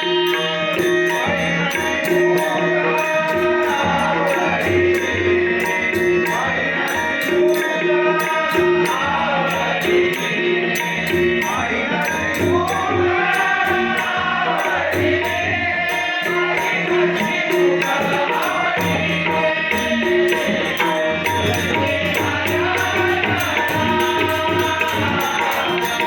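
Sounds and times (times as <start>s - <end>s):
hand drums: 0.0s - 26.0s
person singing devotional song: 0.0s - 26.0s.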